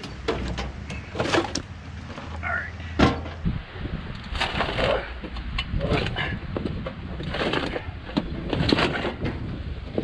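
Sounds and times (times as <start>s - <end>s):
engine block clunking and scraping: 0.0s - 3.5s, 4.1s - 10.0s.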